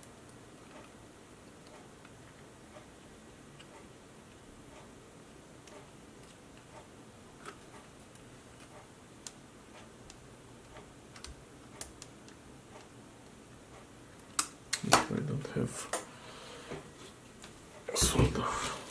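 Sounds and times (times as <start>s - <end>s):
low room hiss: 0.0s - 18.9s.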